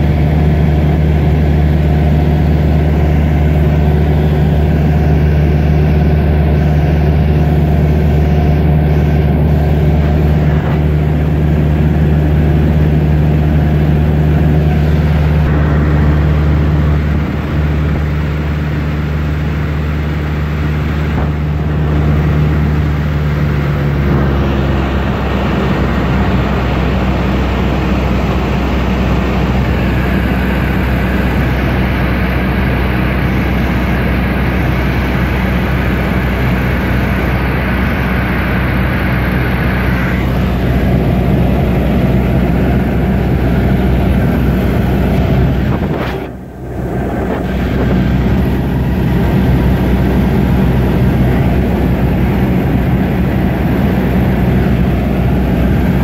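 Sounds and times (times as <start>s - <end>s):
airplane engine and propeller droning: 0.0s - 56.0s.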